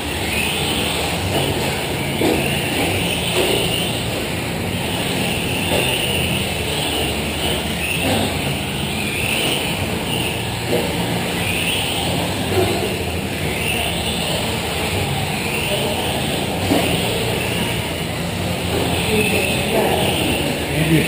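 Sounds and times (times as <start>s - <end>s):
rc trucks motor whine: 0.0s - 21.0s
steady low hum: 0.0s - 21.0s.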